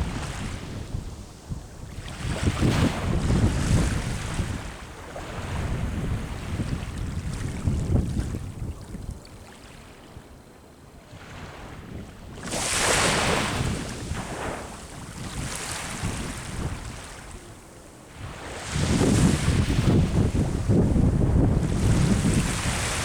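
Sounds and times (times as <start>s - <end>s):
sea waves breaking: 0.0s - 8.6s, 11.1s - 23.0s
wind buffeting microphone: 0.0s - 10.5s, 11.1s - 23.0s.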